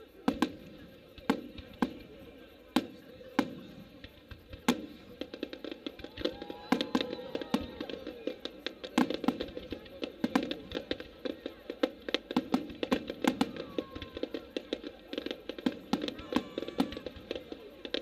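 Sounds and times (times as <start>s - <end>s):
firework crackling: 0.0s - 18.0s.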